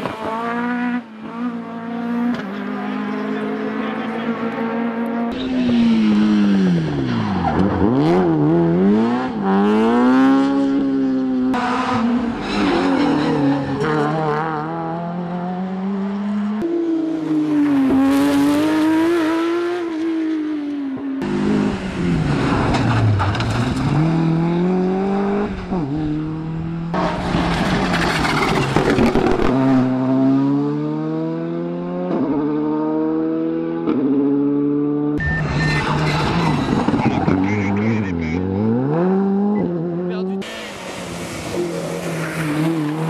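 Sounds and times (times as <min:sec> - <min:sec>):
rally car engines revving: 0:00.0 - 0:43.0.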